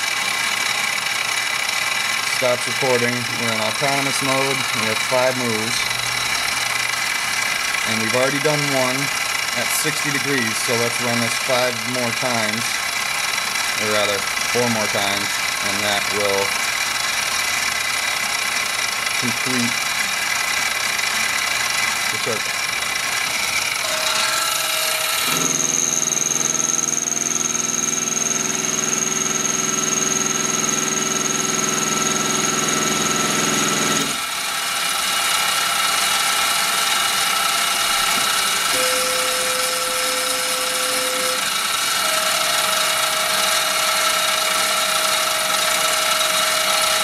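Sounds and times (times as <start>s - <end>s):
spindle motor humming: 0.0s - 47.0s
stepper motors whining: 0.0s - 47.0s.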